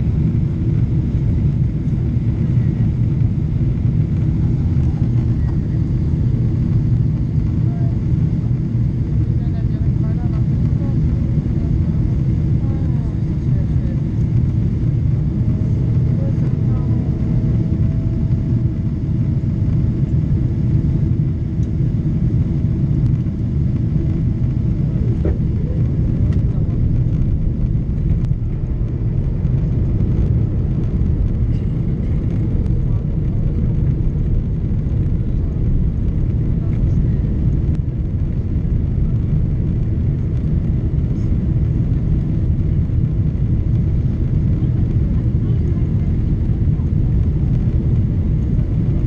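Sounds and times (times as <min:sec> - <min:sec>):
airliner cabin jet roar: 0:00.0 - 0:49.0.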